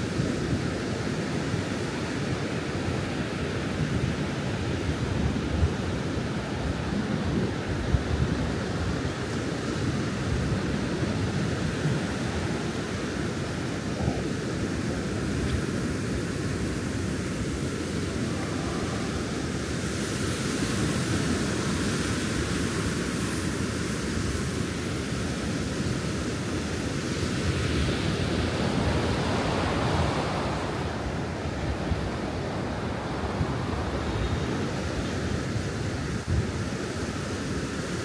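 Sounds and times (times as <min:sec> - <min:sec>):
ocean surf rushing: 0:00.0 - 0:38.0
wind buffeting microphone: 0:03.8 - 0:24.6, 0:26.8 - 0:38.0.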